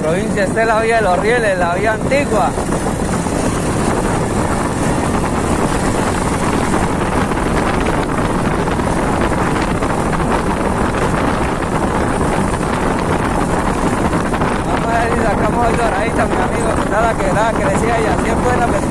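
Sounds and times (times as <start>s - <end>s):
motorcycle engine cruising: 0.0s - 18.9s
wind rush on microphone: 0.0s - 18.9s.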